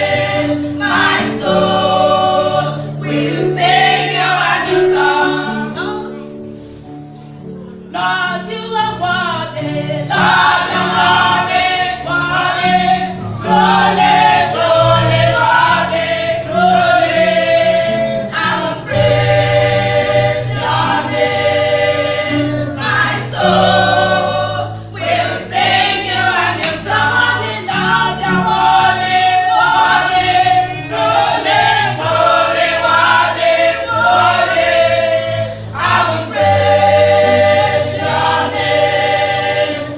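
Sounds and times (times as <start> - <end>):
choir singing gospel: 0.0 - 6.8, 7.8 - 39.9.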